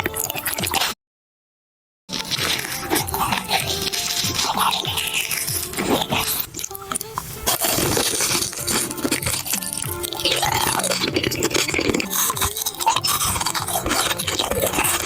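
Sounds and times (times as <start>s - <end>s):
crunchy food being chewed: 0.0s - 1.0s, 2.1s - 15.0s
background music: 2.1s - 15.0s.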